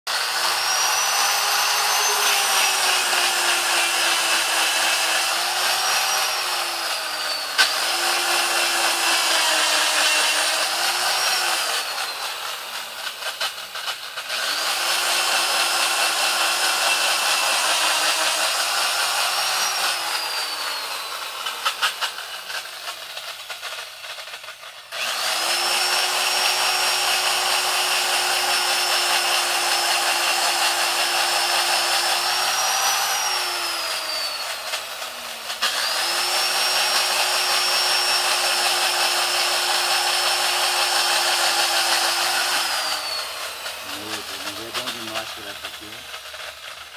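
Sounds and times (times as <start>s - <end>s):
electric drill boring into wood: 0.0s - 46.9s.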